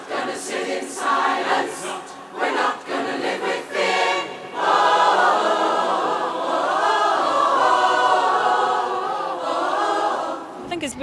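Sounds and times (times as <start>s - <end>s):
mixed choir singing: 0.0s - 10.7s.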